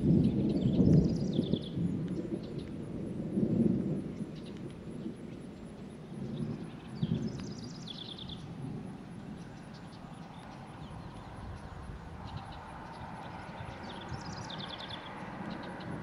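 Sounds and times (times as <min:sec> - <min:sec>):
distant thunder rumbling: 0:00.0 - 0:16.0.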